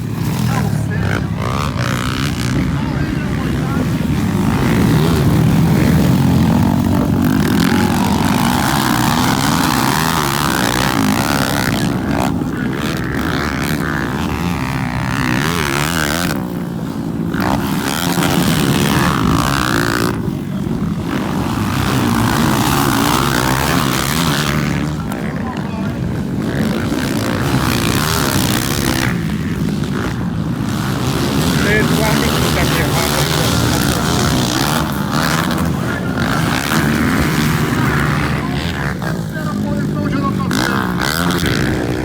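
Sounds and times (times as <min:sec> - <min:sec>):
motocross engines revving: 0:00.0 - 0:42.0.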